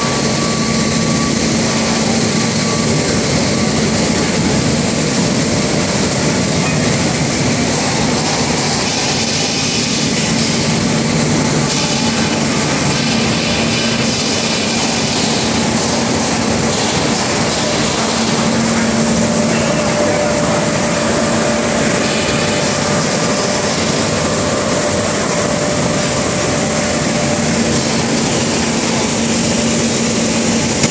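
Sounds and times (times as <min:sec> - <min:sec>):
industrial machinery noise: 0:00.0 - 0:30.9.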